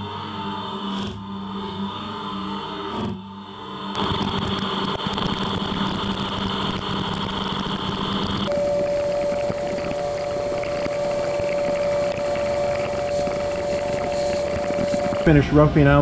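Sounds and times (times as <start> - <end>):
coolant spray and cutting noise: 0.0 - 16.0
machine running hum: 0.0 - 16.0
steady machine whine: 0.0 - 16.0.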